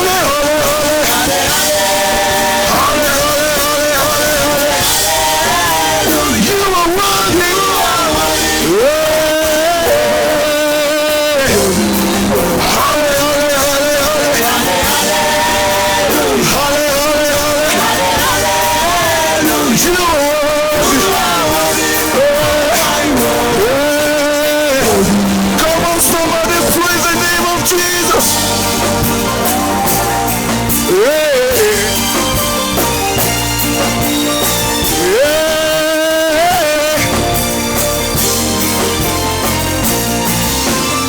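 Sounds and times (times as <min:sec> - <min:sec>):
live worship band music: 0:00.0 - 0:41.0
loud singing: 0:00.0 - 0:41.0.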